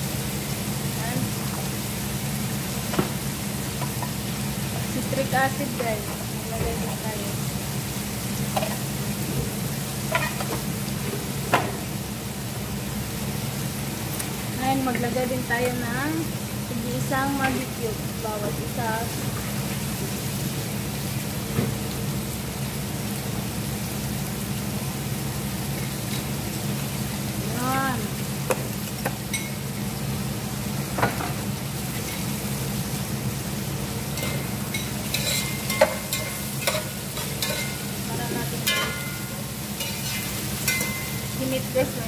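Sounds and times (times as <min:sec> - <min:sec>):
gas stove hissing: 0:00.0 - 0:42.0.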